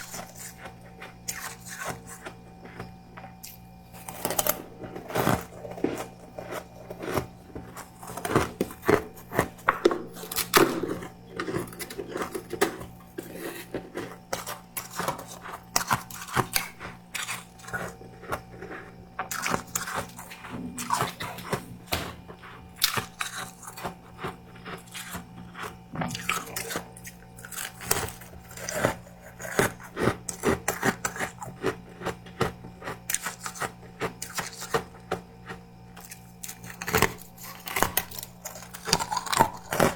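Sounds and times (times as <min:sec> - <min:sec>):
chewing crisp frost: 0:00.0 - 0:39.9.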